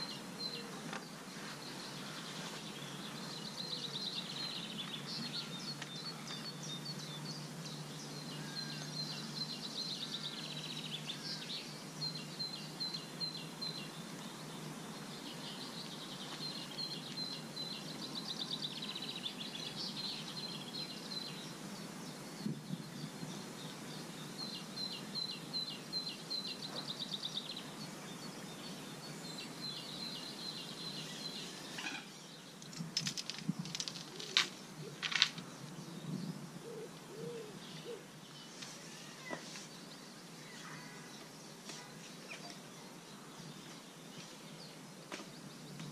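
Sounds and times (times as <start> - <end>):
outdoor background noise: 0.0 - 45.9
songbirds singing: 0.0 - 45.9.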